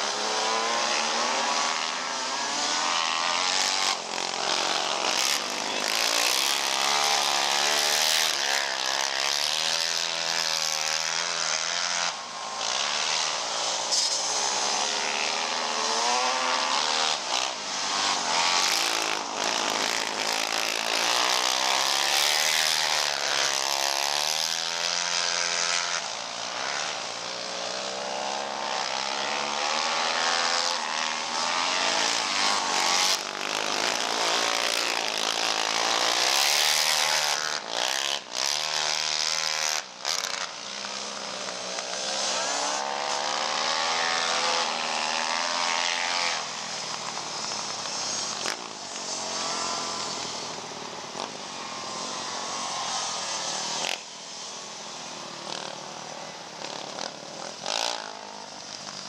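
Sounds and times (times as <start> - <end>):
quad engines revving: 0.0 - 59.0.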